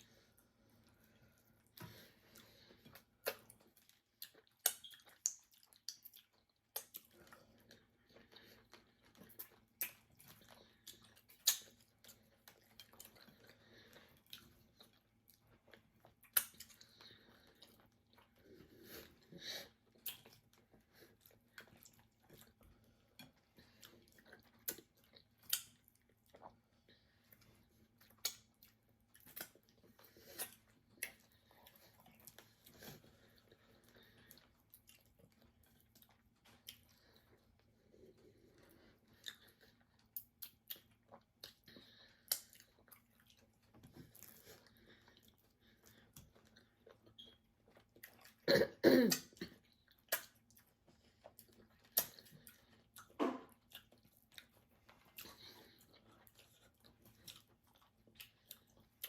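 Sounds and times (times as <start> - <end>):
wet chewing and lip smacks: 0.1 - 48.5, 49.1 - 59.0.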